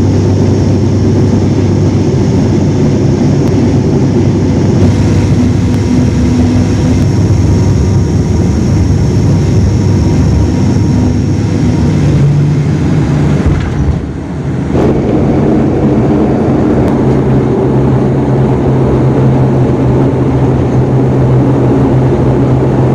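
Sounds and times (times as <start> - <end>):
propeller airliner cabin drone: 0.0 - 22.9.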